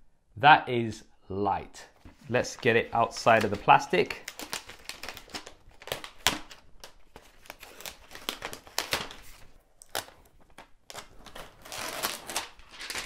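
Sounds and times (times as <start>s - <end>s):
plastic film peeling and crinkling: 2.0s - 13.0s.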